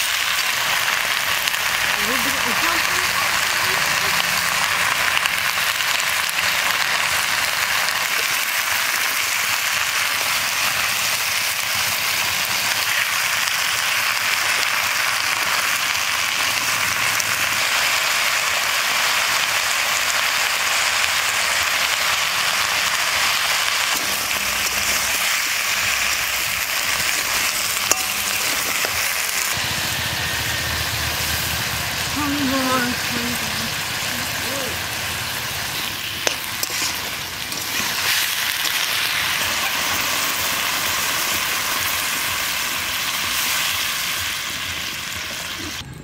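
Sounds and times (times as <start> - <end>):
vegetables sizzling in hot oil: 0.0 - 45.9.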